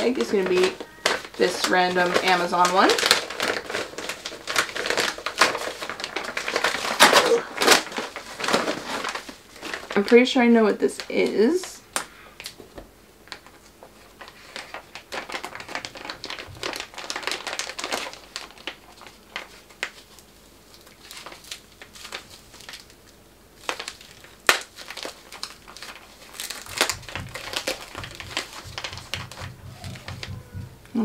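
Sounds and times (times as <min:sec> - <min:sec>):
plastic bag crinkling: 0:00.0 - 0:12.6, 0:13.2 - 0:31.0.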